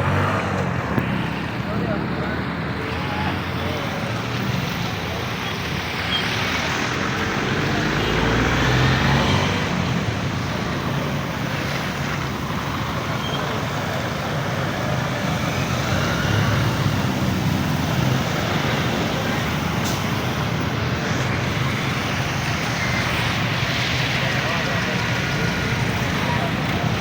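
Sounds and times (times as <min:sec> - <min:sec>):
traffic engines rumbling: 0:00.0 - 0:27.0.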